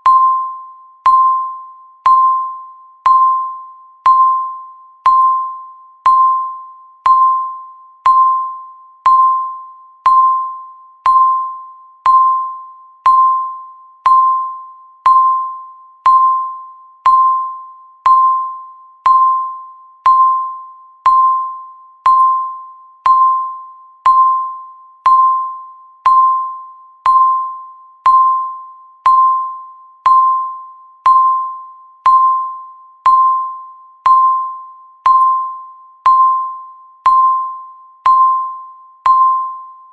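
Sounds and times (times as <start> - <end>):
timer beep ding: 0.0 - 39.9.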